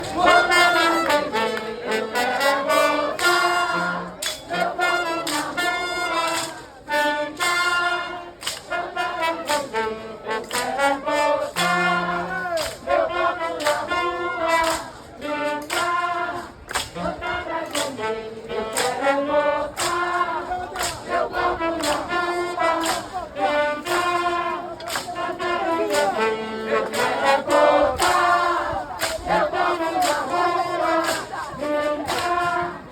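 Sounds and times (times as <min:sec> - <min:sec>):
brass instruments melody: 0:00.0 - 0:32.9.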